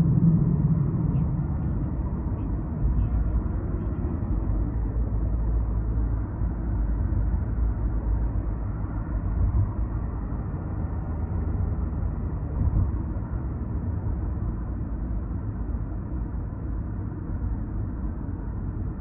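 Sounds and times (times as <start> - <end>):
car road rumble from inside: 0.0 - 19.0.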